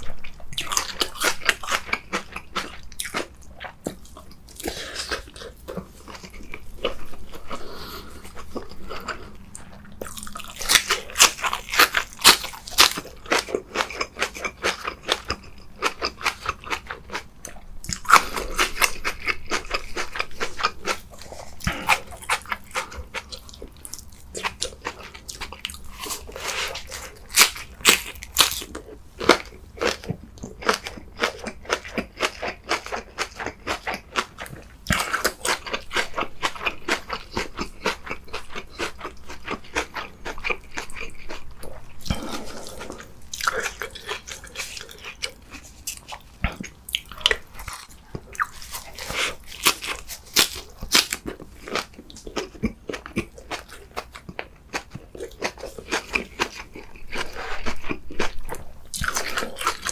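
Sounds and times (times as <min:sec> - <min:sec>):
crisp chewing crunches: 0:00.0 - 0:59.9.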